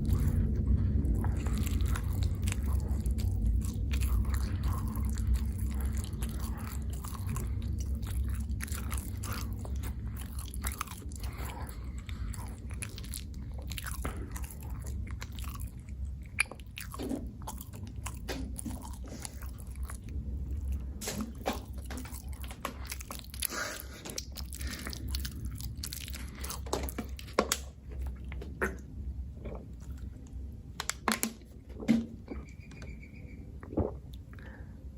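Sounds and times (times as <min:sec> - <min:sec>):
person chewing and biting food: 0:00.0 - 0:30.5.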